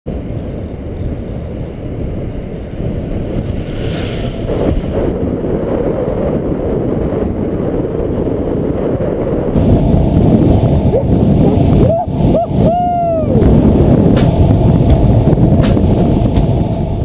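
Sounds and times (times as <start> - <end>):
wind buffeting a microphone: 0.1 - 17.0.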